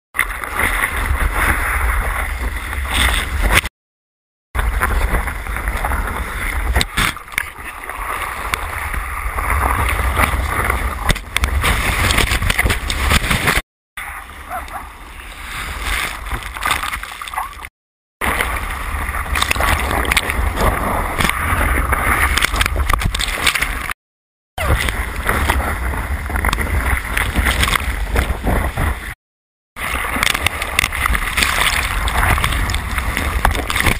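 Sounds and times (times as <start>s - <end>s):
water sloshing and splashing: 4.6s - 24.0s, 24.6s - 29.2s, 29.8s - 33.9s.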